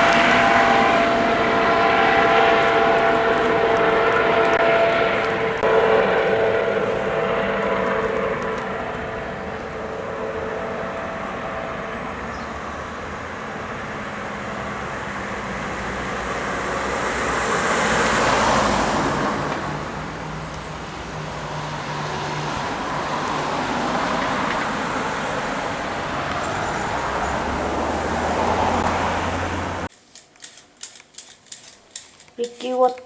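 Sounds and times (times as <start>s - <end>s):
cars passing: 0.0s - 29.9s
engine hum: 0.0s - 29.9s.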